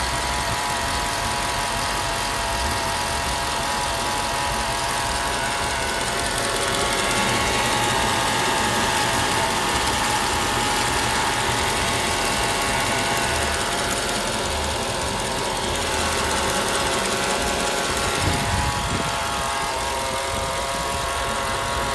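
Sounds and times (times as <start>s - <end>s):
car engine idling: 0.0s - 21.9s
constant whine: 0.0s - 21.9s.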